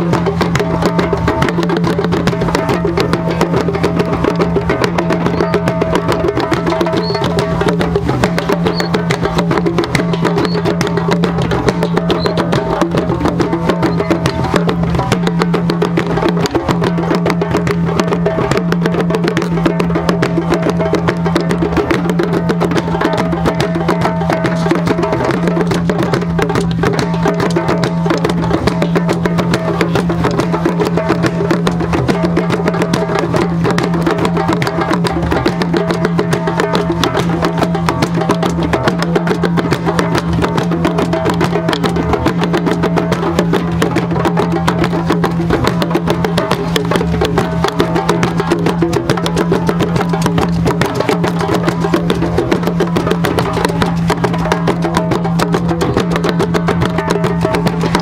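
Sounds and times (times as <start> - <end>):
drums playing fast rhythm: 0.0 - 58.0.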